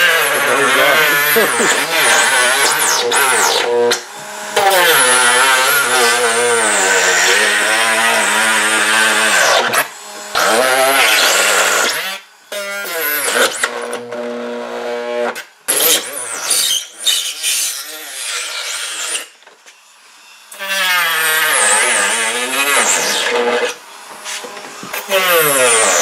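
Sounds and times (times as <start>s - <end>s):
rotary tool cutting: 0.0s - 19.8s, 20.5s - 26.0s.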